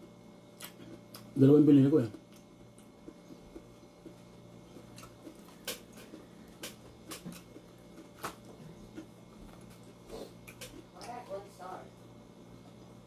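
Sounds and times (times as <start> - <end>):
person chewing food: 0.0 - 1.4, 2.0 - 11.2
steady low hum: 0.0 - 13.0.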